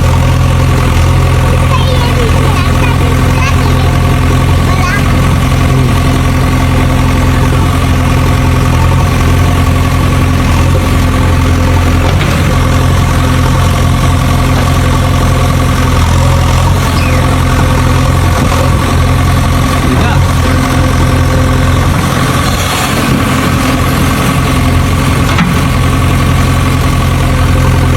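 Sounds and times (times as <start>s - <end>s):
vehicle engine idling: 0.0s - 27.9s.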